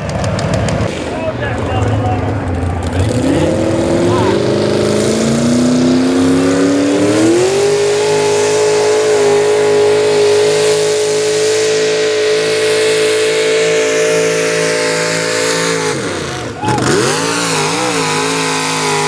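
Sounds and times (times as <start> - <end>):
truck engine at full throttle: 0.0 - 19.0.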